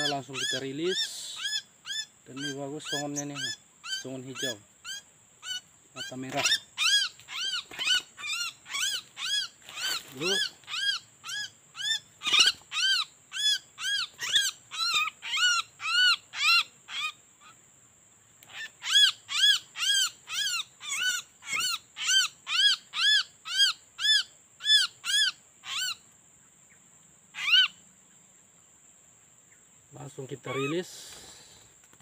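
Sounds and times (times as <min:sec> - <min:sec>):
bird calling loudly: 0:00.0 - 0:17.6, 0:18.4 - 0:26.0, 0:26.7 - 0:27.8, 0:30.3 - 0:31.4.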